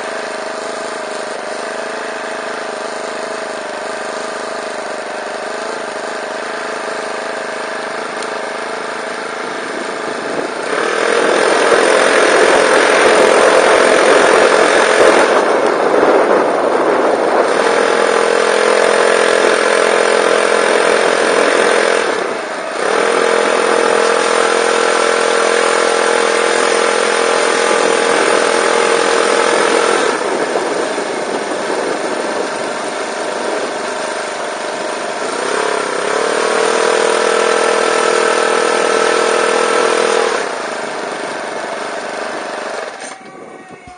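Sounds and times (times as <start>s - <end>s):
small engine running: 0.0s - 43.9s.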